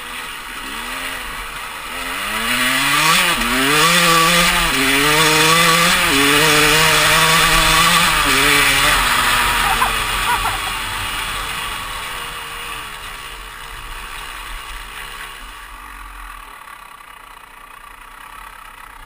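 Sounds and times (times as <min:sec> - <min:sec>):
dirt bike engine accelerating: 0:00.0 - 0:19.0.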